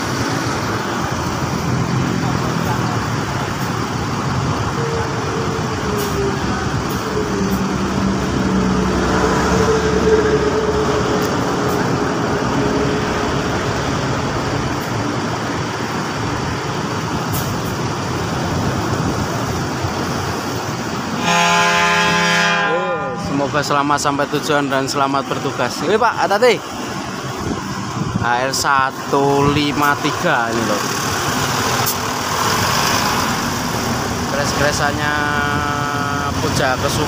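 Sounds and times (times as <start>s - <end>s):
bus diesel engine pulling away: 0.0s - 21.2s, 23.0s - 37.0s.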